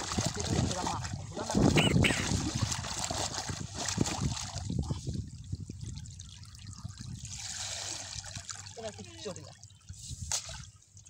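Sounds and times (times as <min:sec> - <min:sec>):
water splashing and sloshing: 0:00.0 - 0:11.0
water trickling and dripping: 0:01.8 - 0:11.0.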